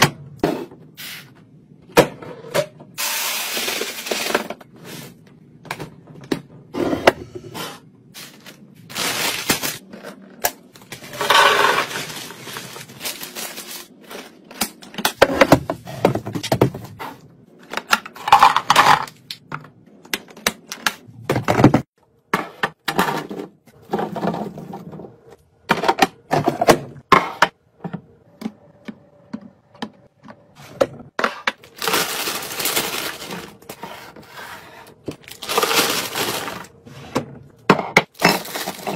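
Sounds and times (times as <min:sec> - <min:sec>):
noisy handling of items: 0:03.6 - 0:27.1, 0:27.9 - 0:38.9.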